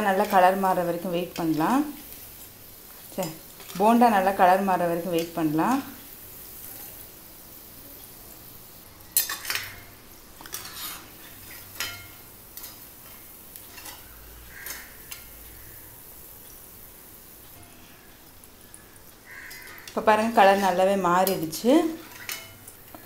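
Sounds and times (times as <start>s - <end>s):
oil sizzling: 0.0s - 23.0s.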